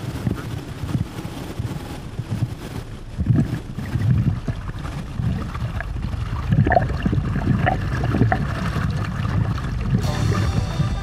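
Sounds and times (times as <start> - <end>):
wind buffeting camera: 0.0 - 10.1
water rushing and splashing: 0.0 - 11.0.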